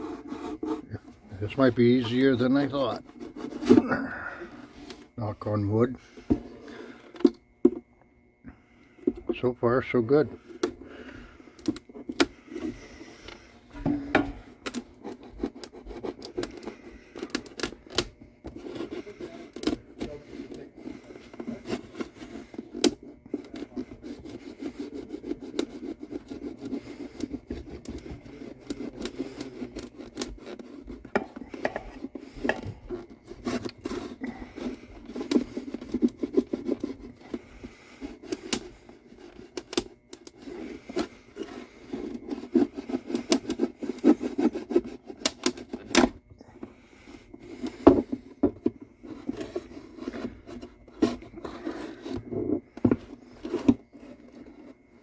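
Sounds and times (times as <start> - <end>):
hand tool scraping wood: 0.0 - 7.9, 8.5 - 55.0.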